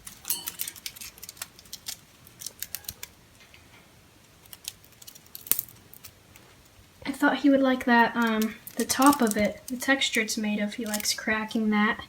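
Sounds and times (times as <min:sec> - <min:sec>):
parrot chewing toy with beak: 0:00.0 - 0:07.1, 0:07.8 - 0:11.2.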